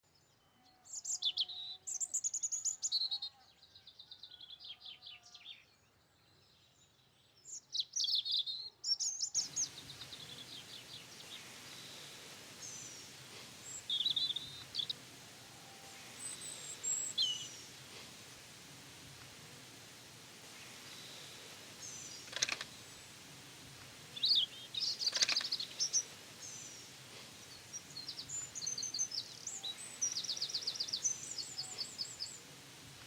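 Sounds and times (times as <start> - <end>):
steady outdoor hiss: 0.9 - 3.0, 6.6 - 33.0
small birds chirping: 0.9 - 3.2, 6.4 - 33.0.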